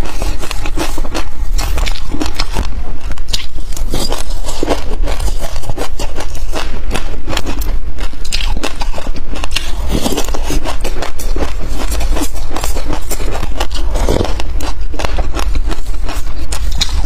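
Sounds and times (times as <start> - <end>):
chewing crunchy seeds: 0.0 - 17.0.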